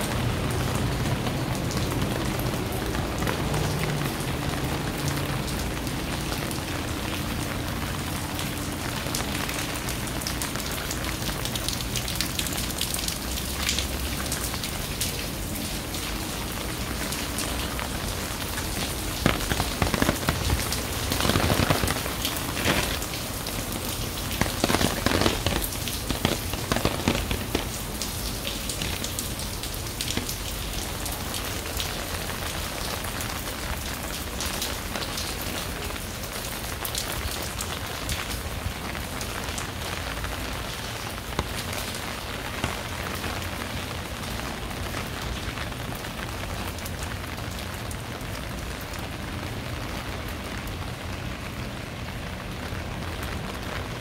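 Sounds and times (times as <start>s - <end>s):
rain pattering on hard surfaces: 0.0s - 54.0s.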